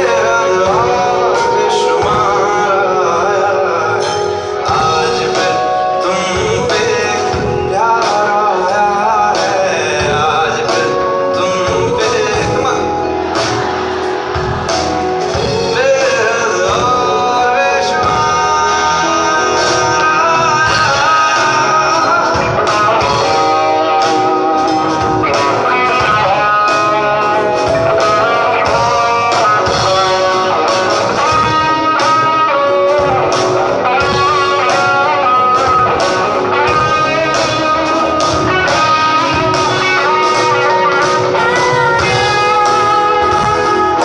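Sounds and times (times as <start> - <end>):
electric guitar: 0.0 - 44.0
live band playing: 0.0 - 44.0
steady drum beat: 0.0 - 44.0.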